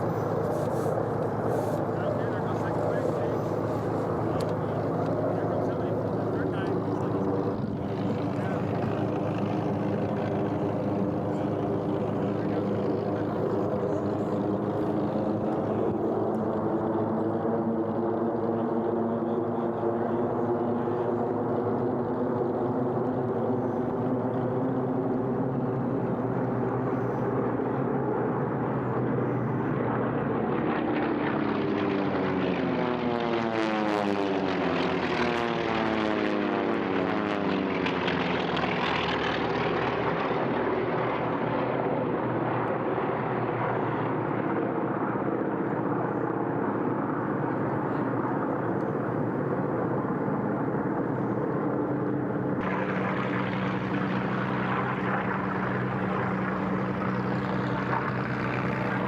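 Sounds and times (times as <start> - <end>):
propeller aircraft droning: 0.0 - 59.0
propeller aircraft flying past: 0.0 - 59.0.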